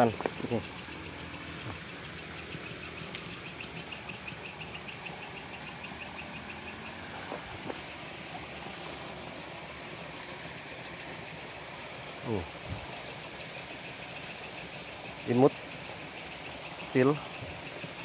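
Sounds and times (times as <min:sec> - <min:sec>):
high-pitched insect trill: 0:00.0 - 0:18.0
lower pulsing insect call: 0:00.0 - 0:18.0.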